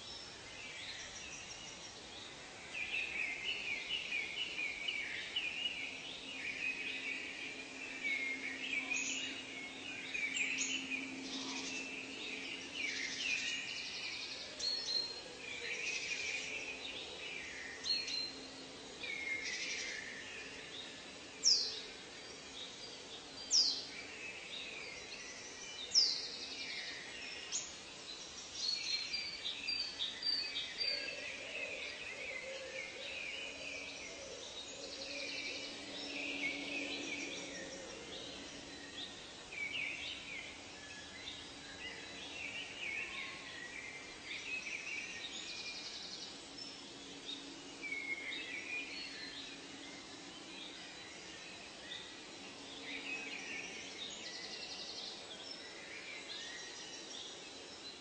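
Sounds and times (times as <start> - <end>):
birds calling and trilling: 0.0 - 58.0
faint low drone: 0.0 - 58.0.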